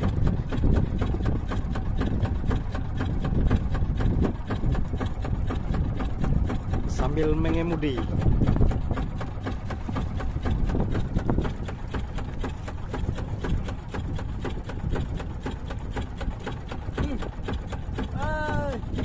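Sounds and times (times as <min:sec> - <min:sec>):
boat engine knocking: 0:00.0 - 0:19.0.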